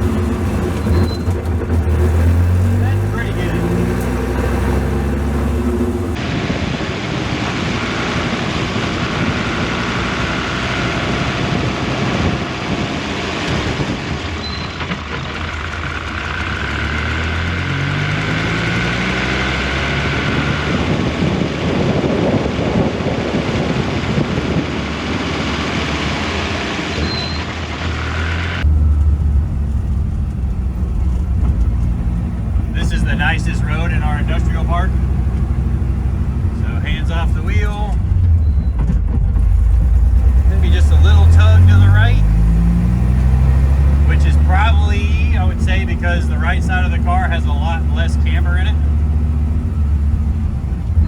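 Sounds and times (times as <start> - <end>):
race car engine: 0.0 - 51.0
road noise inside car: 0.0 - 51.0.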